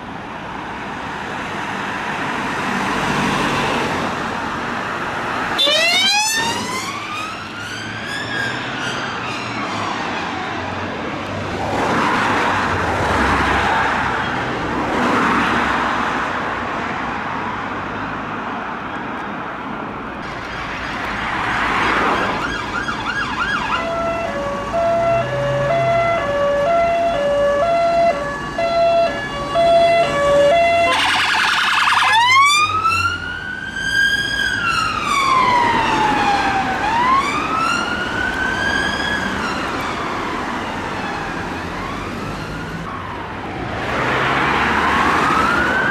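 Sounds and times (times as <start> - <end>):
traffic passing: 0.0 - 45.9
emergency vehicle siren: 2.9 - 15.6, 20.3 - 45.9.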